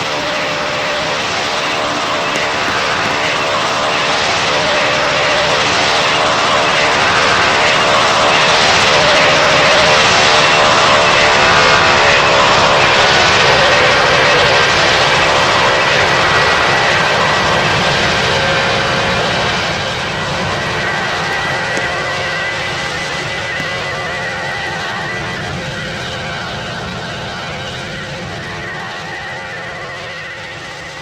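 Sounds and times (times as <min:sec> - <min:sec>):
airplane engines passing: 0:00.0 - 0:31.0.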